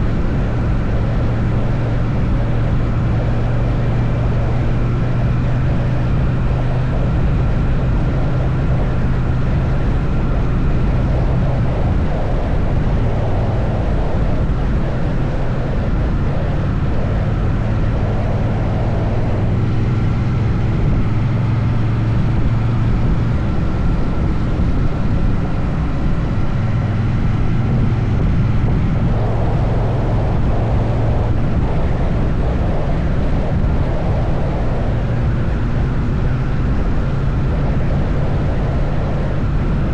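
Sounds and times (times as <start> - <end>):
motorcycle engine droning: 0.0 - 39.9
rumbling wind and road noise: 0.0 - 39.9.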